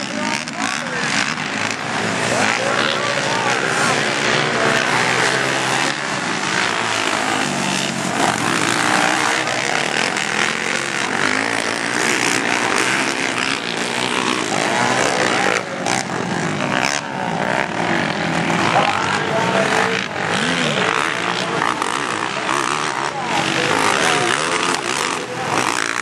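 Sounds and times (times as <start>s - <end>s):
atv engines revving: 0.0s - 26.0s.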